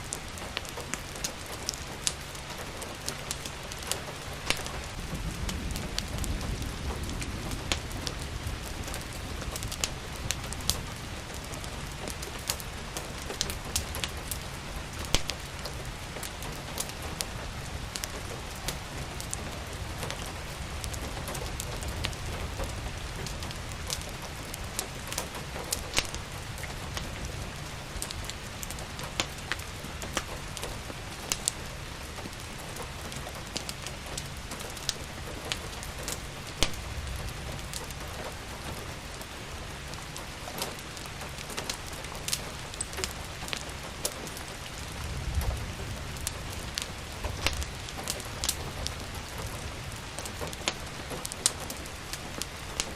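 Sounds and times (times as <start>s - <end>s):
steady rain: 0.0s - 52.9s
wood fire crackling: 0.0s - 52.9s.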